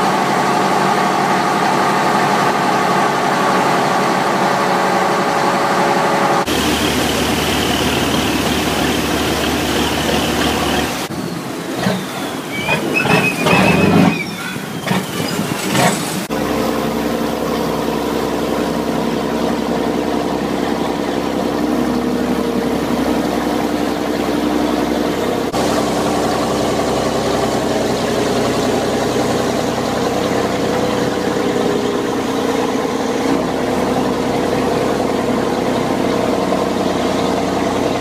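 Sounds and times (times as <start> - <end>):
boat engine running: 0.0 - 38.0
water rushing along hull: 0.0 - 38.0.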